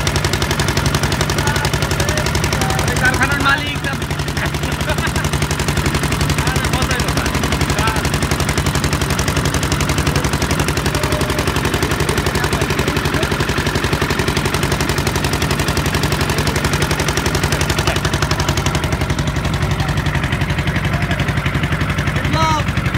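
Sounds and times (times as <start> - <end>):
boat engine chugging: 0.0 - 22.9.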